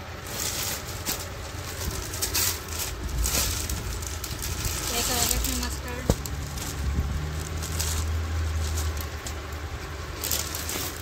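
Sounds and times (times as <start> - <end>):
cloth rustling: 0.0 - 11.0
steady low hum: 0.0 - 11.0.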